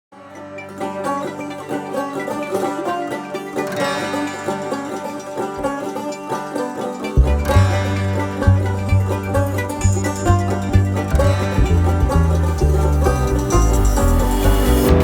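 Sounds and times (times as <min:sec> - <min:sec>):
upbeat banjo tune: 0:00.1 - 0:15.0.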